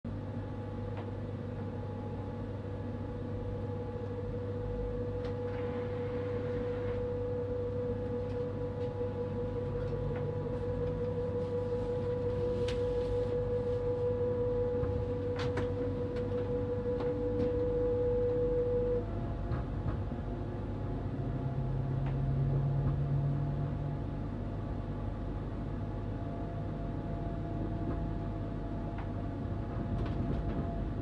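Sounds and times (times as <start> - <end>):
steady humming tone: 0.1 - 31.0
train running rumble: 0.9 - 31.0.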